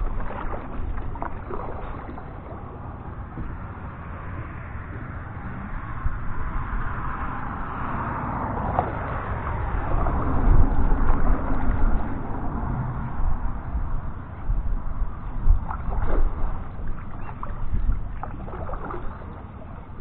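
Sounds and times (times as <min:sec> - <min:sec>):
vehicle crossing bridge: 0:00.0 - 0:20.0
water rushing around kayak: 0:00.0 - 0:20.0.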